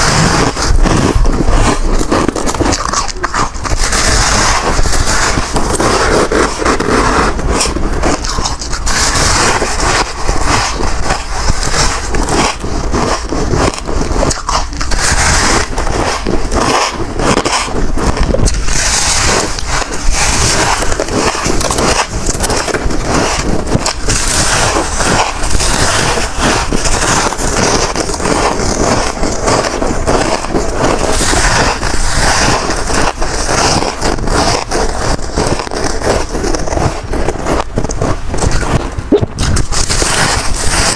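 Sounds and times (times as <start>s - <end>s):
person chewing ice crunching: 0.0s - 40.9s.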